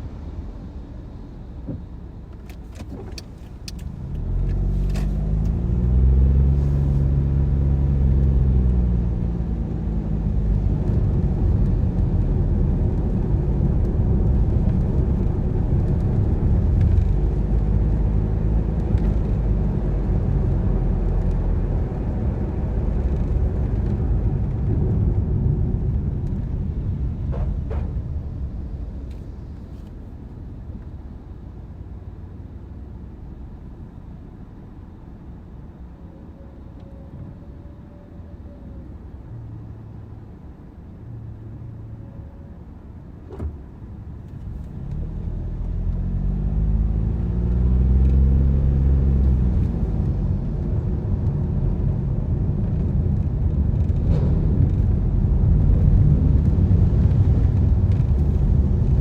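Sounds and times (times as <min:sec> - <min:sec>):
tyre and road noise: 0:00.0 - 0:31.3, 0:35.6 - 0:59.0
car engine: 0:00.0 - 0:59.0.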